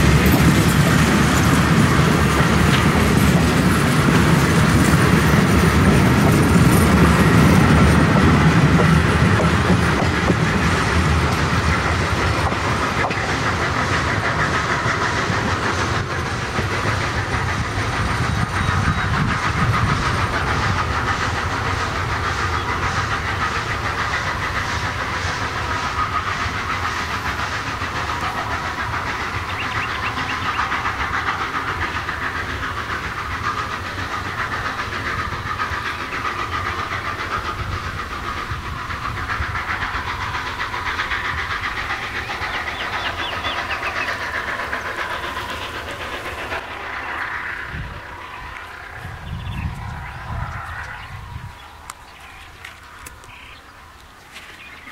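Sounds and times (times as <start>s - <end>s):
steam exhaust and hiss: 0.0s - 54.9s
train wheels on rails: 0.0s - 54.9s.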